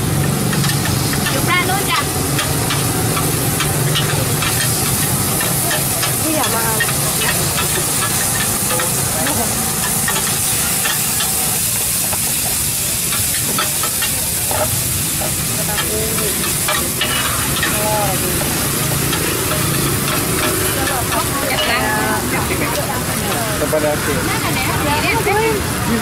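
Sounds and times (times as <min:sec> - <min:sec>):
shrimp sizzling in hot oil: 0:00.0 - 0:26.0.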